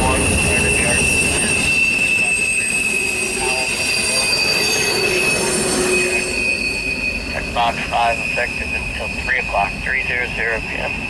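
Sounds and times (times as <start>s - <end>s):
rumble of train cars: 0.0s - 11.0s
train wheels squealing: 0.0s - 11.0s.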